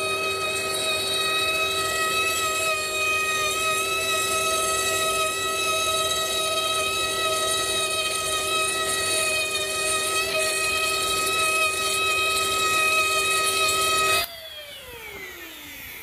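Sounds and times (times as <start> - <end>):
end mill cutting metal: 0.0 - 14.3
spindle whining: 0.0 - 16.0.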